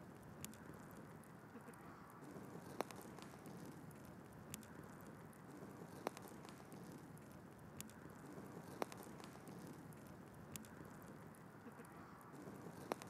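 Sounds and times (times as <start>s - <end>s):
fire crackles and pops: 0.0s - 13.0s.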